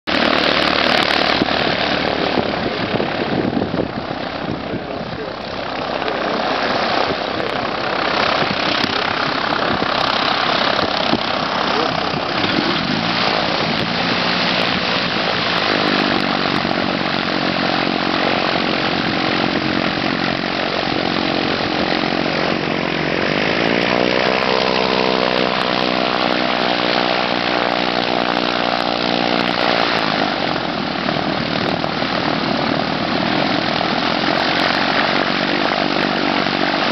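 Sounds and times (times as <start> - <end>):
propeller aircraft engines running: 0.0 - 36.9
plane flying past overhead: 0.1 - 36.9.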